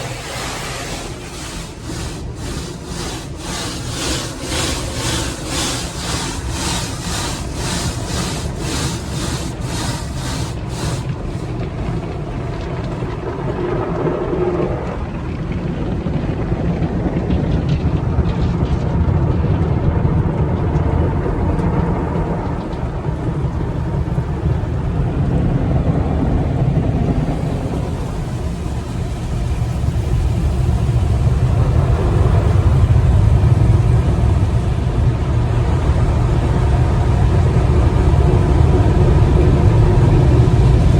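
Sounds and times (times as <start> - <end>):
car wash rhythmic slapping: 0.0 - 13.3, 20.4 - 40.9
car wash low rumble: 0.0 - 40.9.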